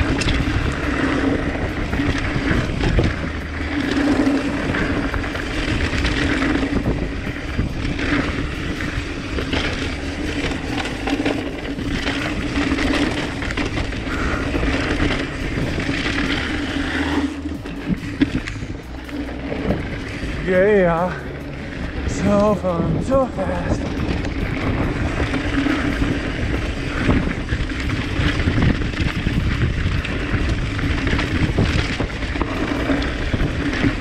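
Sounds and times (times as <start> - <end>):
bike knocking on rough ground: 0.0 - 34.0
bike rattling and clicking: 0.0 - 34.0
steady low hum: 0.0 - 34.0
wind and tyre noise on dirt: 0.0 - 34.0.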